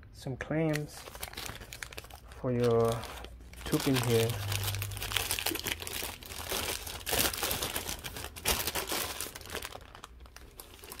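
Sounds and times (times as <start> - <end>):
plastic bag crinkling: 0.7 - 11.0.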